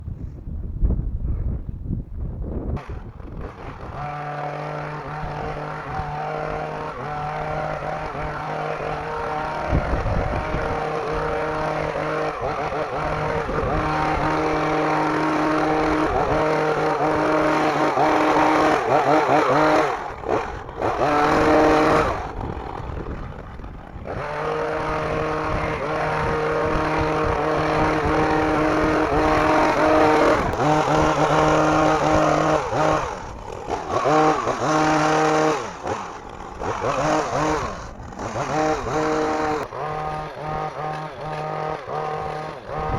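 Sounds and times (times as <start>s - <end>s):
hedge trimmer motor running: 2.7s - 42.9s.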